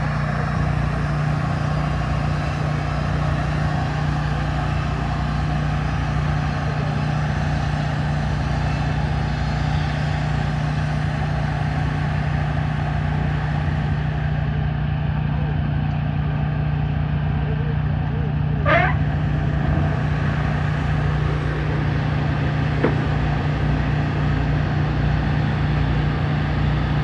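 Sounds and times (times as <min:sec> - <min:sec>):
engine running steadily: 0:00.0 - 0:27.0.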